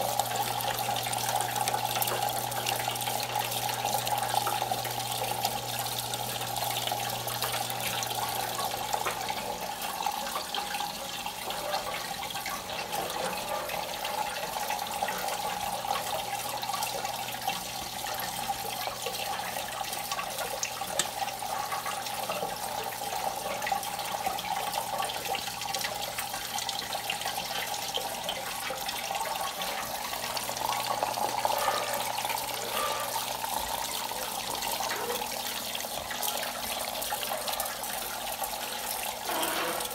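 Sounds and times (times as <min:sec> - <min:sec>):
water splashing into metal basins: 0:00.0 - 0:39.9.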